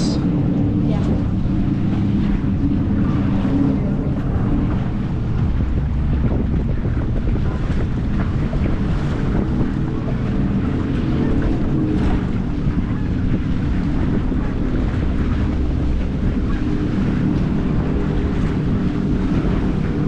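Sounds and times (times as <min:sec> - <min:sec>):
water washing along hull: 0:00.0 - 0:20.0
wind rumbling over microphone: 0:00.0 - 0:20.0.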